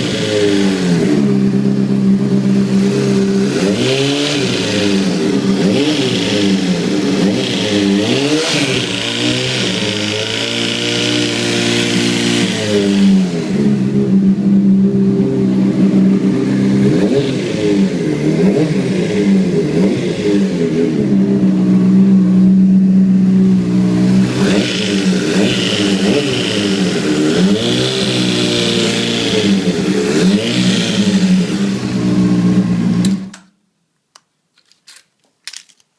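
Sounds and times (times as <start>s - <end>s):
motorcycle engine humming: 0.0s - 33.4s.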